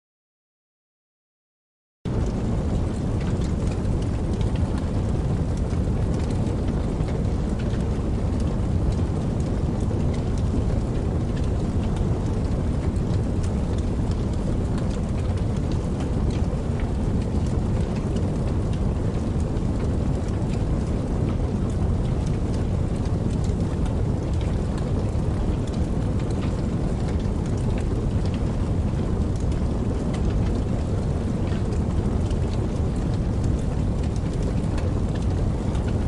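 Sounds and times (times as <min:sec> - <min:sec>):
campfire crackling and popping: 0:02.2 - 0:36.0.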